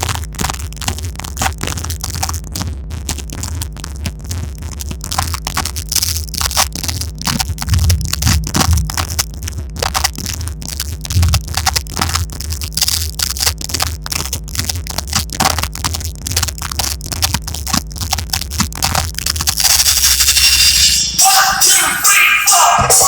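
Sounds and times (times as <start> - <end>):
harsh crackling: 0.0 - 23.0
steady low hum: 0.0 - 23.0.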